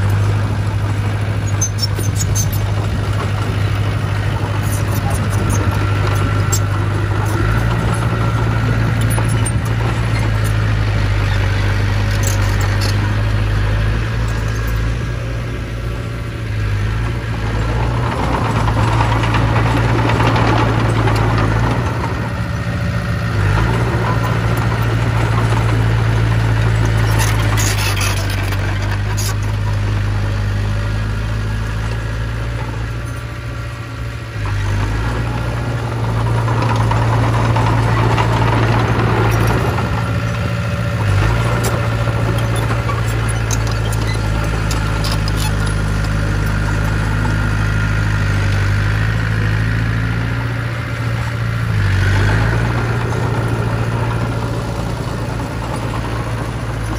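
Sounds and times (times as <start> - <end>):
bulldozer diesel engine running: 0.0 - 56.9.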